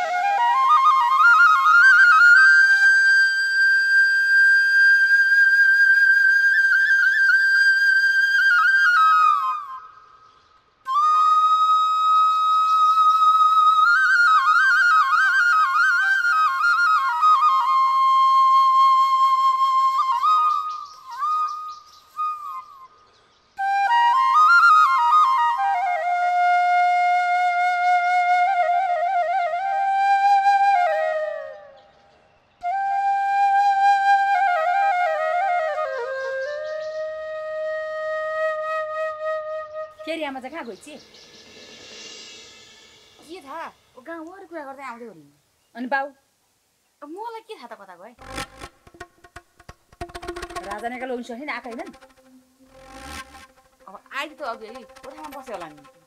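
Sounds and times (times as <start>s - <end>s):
solo flute melody: 0.0s - 41.1s, 48.2s - 56.0s.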